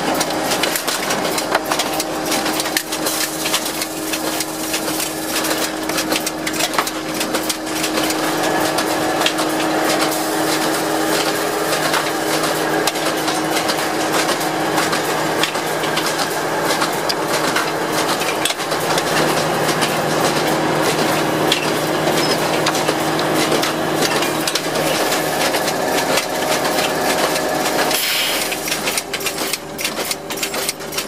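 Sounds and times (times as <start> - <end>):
machine clattering clicks and knocks: 0.0 - 31.0.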